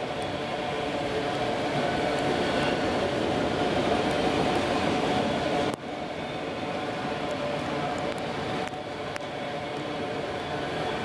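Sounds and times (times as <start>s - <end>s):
train wheels rolling on rail: 0.0s - 11.0s.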